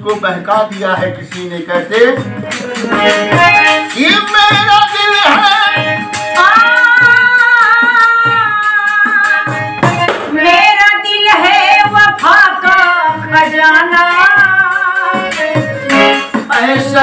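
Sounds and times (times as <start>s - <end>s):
frame drum beat: 0.0s - 17.0s
harmonium: 0.0s - 17.0s
person singing: 2.4s - 17.0s.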